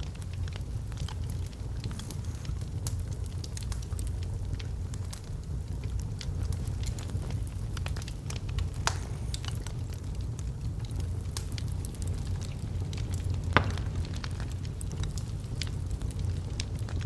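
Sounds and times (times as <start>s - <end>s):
log fire crackling: 0.0s - 17.0s
low rumble of fire: 0.0s - 17.0s.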